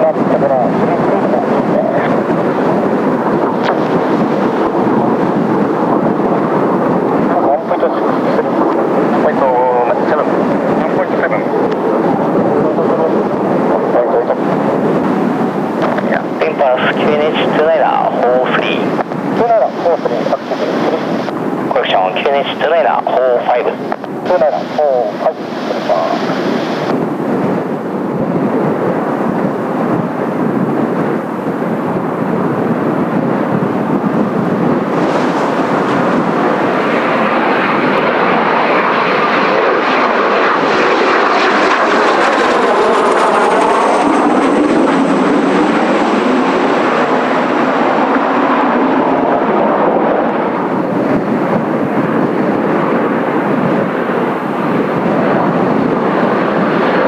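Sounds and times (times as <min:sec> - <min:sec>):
high jet whine: 0:00.0 - 0:57.0
jet engines passing: 0:00.0 - 0:57.0.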